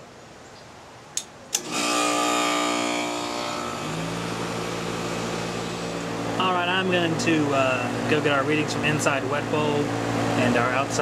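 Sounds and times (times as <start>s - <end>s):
heat pump hum and hiss: 0.0s - 11.0s.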